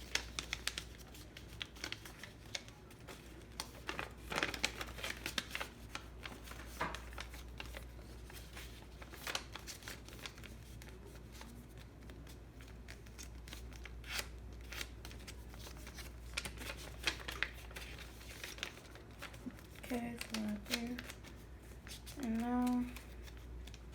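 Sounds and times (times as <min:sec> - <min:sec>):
low steady hum: 0:00.0 - 0:23.9
paper rustling and creasing: 0:00.0 - 0:23.9.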